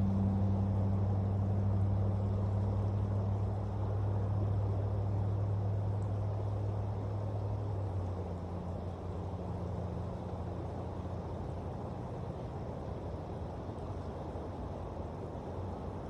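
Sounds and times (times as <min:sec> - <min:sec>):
motor engine humming: 0:00.0 - 0:13.6.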